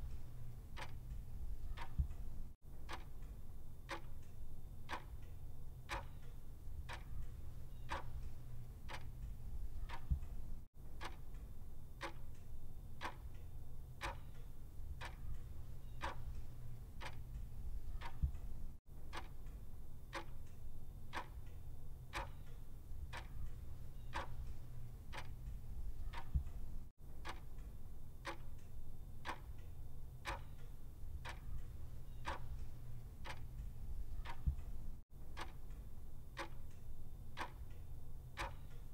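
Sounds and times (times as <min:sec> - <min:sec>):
clock ticking: 0:00.0 - 0:13.4, 0:14.0 - 0:38.9.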